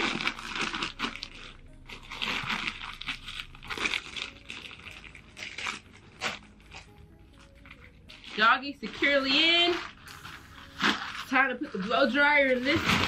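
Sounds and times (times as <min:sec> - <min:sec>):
fabric suit crinkling and rustling: 0:00.0 - 0:13.0.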